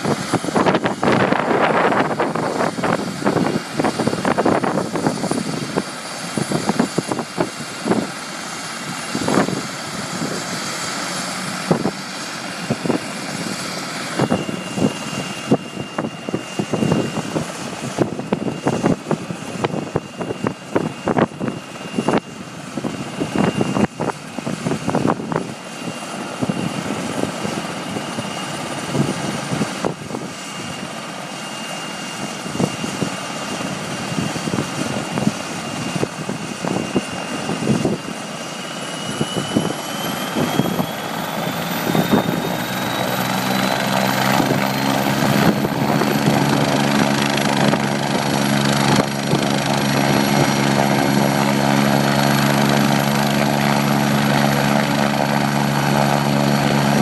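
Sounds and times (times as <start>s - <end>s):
helicopter rotor beat: 0.0s - 57.0s
helicopter turbine whine: 0.0s - 57.0s.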